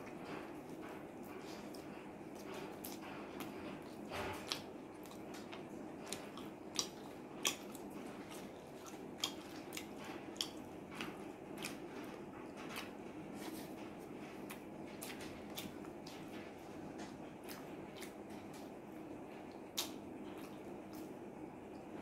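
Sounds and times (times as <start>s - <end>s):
steady low hum: 0.0s - 22.0s
wet chewing: 0.0s - 22.0s.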